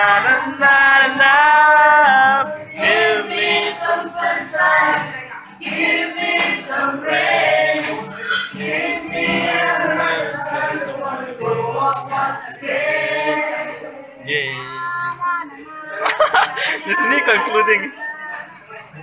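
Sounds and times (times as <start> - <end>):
group of people singing: 0.0 - 19.0.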